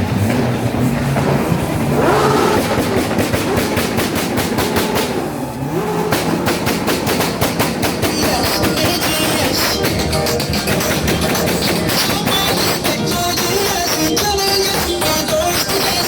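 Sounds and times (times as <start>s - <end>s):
car engine revving hard: 0.0s - 14.0s
exhaust pops and bangs: 0.0s - 16.0s.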